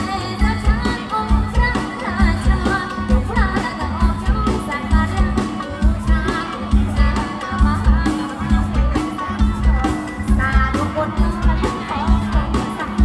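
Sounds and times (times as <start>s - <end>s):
band with driving bass beat: 0.0s - 13.0s.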